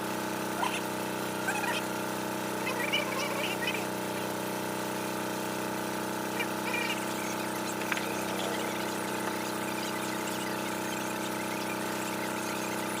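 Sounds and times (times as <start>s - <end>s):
power tool motor humming: 0.4s - 13.0s.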